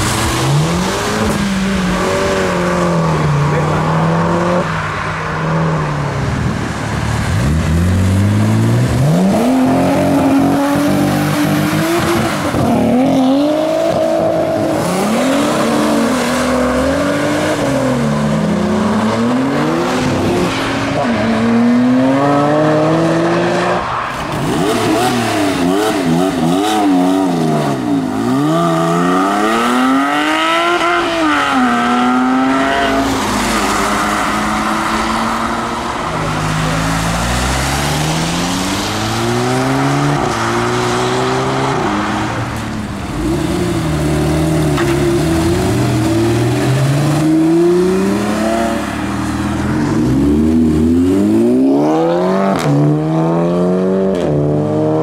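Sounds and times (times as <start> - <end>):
cars accelerating hard: 0.0 - 55.0.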